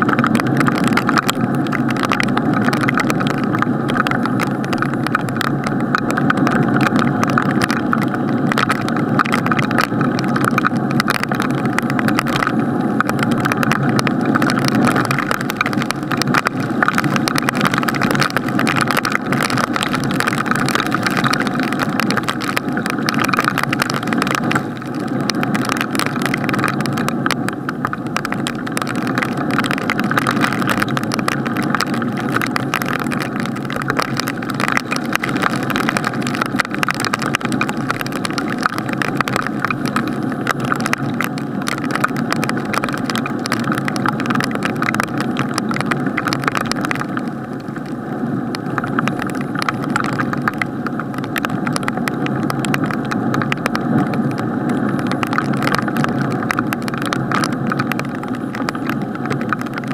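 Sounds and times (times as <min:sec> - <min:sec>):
rain tapping on camera housing: 0:00.0 - 0:59.9
steady rush of rain: 0:00.0 - 0:59.9.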